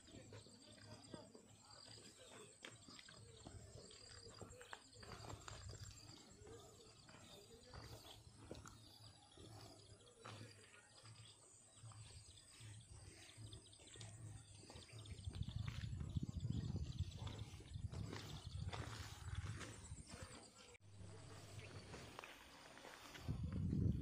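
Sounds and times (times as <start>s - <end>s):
birds chirping and calling: 0.0s - 20.7s.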